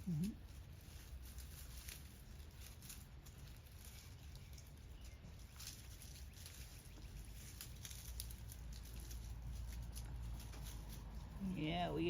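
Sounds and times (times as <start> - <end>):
dry brush rustling and crackling: 0.0 - 12.0
low background rumble: 0.0 - 12.0.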